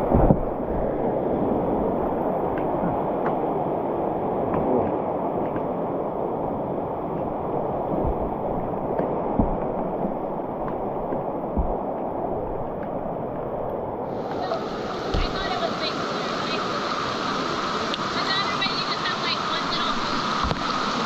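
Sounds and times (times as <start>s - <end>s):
whitewater rapids rushing: 1.5s - 21.0s.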